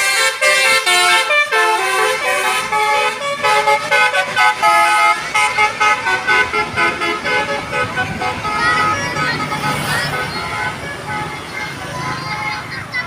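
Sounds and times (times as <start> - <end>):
bus air horns playing a tune: 0.0 - 12.7.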